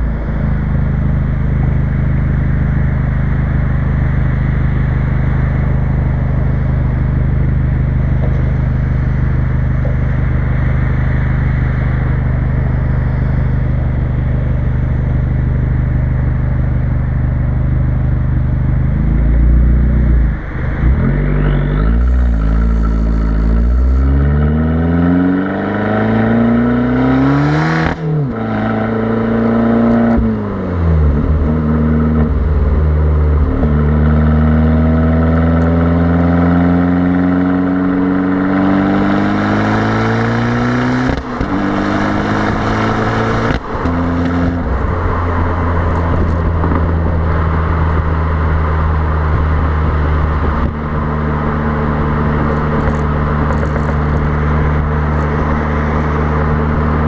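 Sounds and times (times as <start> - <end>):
car exhaust accelerating hard: 0.0 - 57.0.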